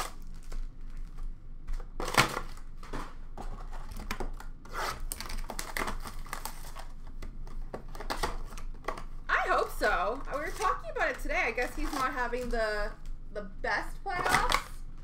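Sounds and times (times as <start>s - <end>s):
card packs crinkling and rustling: 0.0s - 13.2s.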